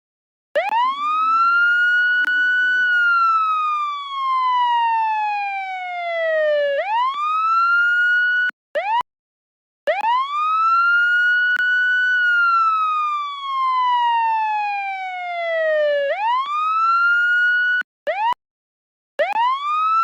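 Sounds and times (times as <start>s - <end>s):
police siren wailing: 0.6s - 9.0s, 9.9s - 18.4s, 19.2s - 20.0s
siren chirp: 0.6s - 9.0s, 9.9s - 18.4s, 19.2s - 20.0s.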